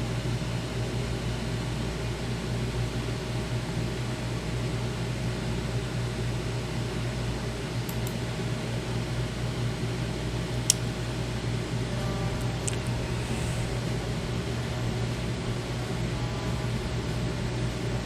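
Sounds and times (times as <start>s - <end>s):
fan-like hum and hiss: 0.0s - 18.0s.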